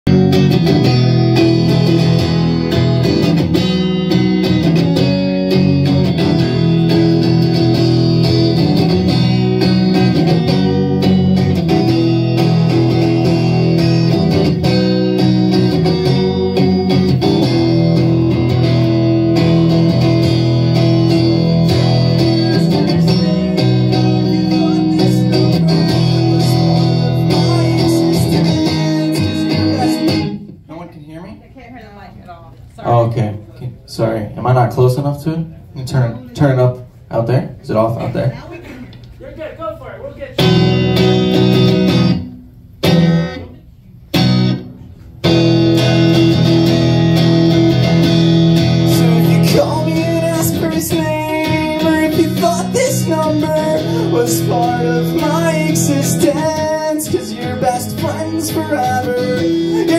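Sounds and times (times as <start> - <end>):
electric guitar chords: 0.1 - 30.7, 40.4 - 59.9.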